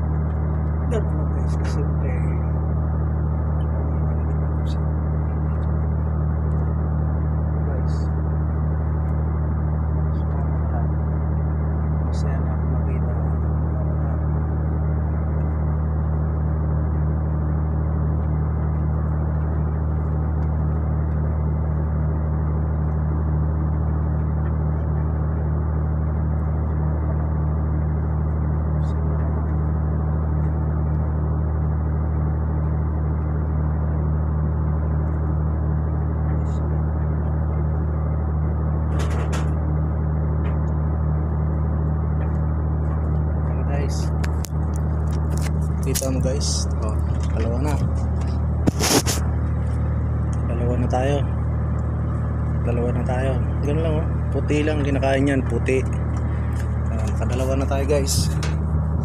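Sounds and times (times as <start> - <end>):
ship machinery humming: 0.0 - 59.0.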